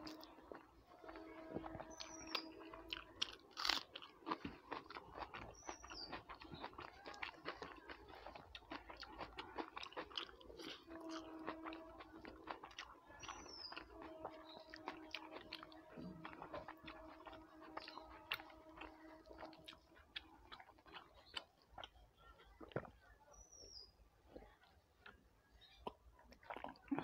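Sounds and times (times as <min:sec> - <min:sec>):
person chewing food: 0:00.0 - 0:23.1, 0:24.2 - 0:27.0.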